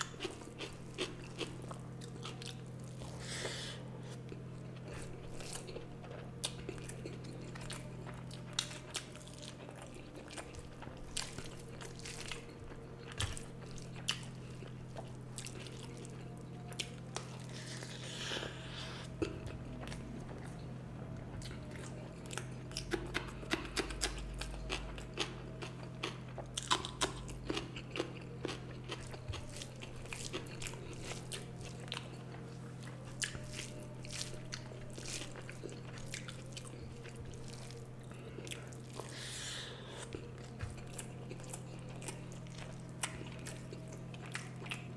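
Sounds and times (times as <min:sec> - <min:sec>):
person chewing food: 0:00.0 - 0:44.9
steady low hum: 0:00.0 - 0:44.9.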